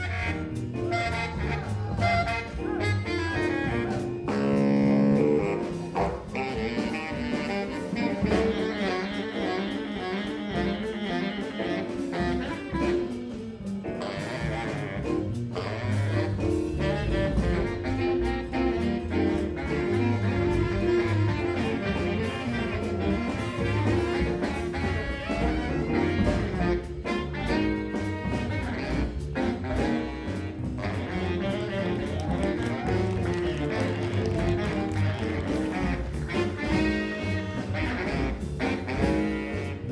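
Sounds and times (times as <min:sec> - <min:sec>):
jazz music with saxophone and brass: 0:00.0 - 0:39.9.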